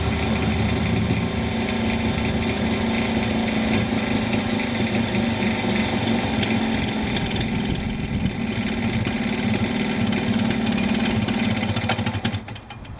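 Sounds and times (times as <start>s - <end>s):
moped engine idling: 0.0s - 12.9s.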